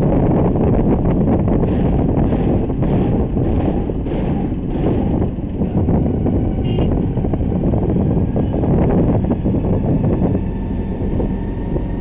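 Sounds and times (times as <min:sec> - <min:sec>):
vehicle and road noise: 0:00.0 - 0:12.0
wind rushing over microphone: 0:00.0 - 0:12.0.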